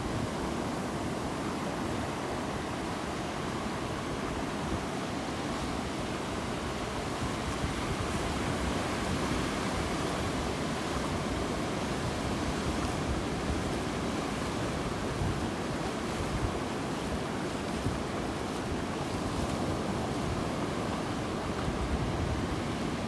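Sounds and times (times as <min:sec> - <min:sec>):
waves washing on a beach: 0:00.0 - 0:23.0.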